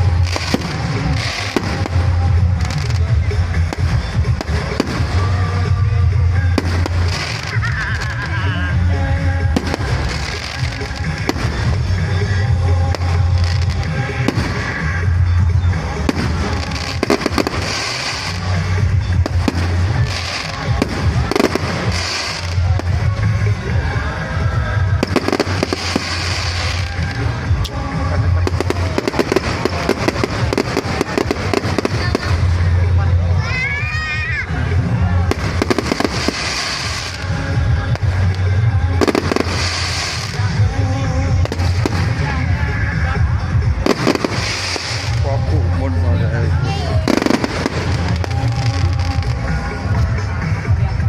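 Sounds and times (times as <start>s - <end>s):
fireworks banging and crackling: 0.0s - 51.0s
music with heavy bass: 0.0s - 51.0s.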